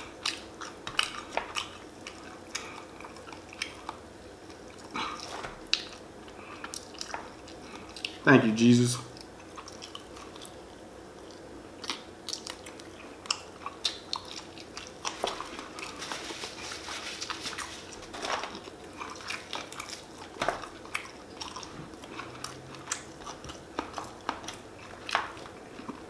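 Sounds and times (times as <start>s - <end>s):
person chewing crispy chicken: 0.0s - 8.2s, 9.1s - 26.0s.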